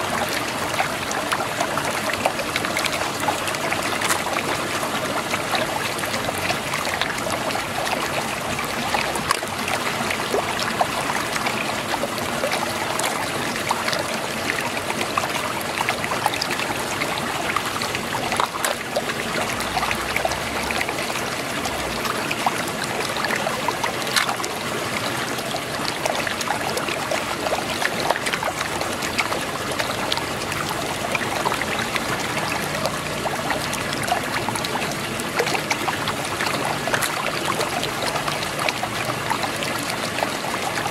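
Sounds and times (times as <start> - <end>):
small clicks and splashes: 0.0 - 40.9
water churning in whirlpool: 0.0 - 40.9.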